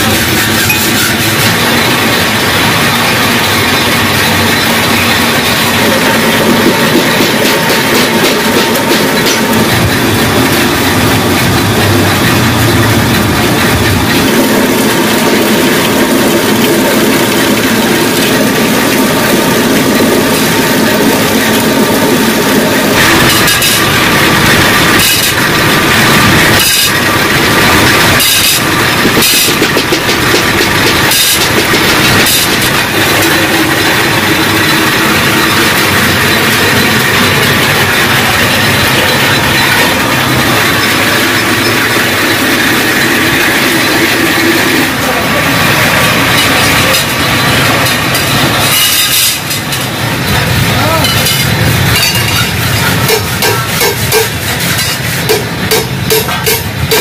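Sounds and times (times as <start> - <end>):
sharp metallic knocks: 0.0 - 20.5, 23.0 - 44.3, 51.0 - 57.0
drill press running and rattling: 0.0 - 57.0.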